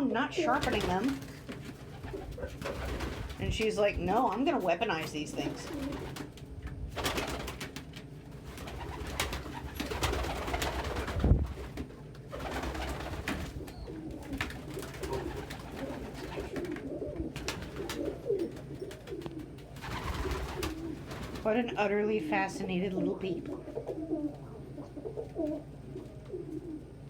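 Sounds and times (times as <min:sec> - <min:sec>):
pigeons cooing: 0:00.4 - 0:03.5, 0:05.4 - 0:27.0.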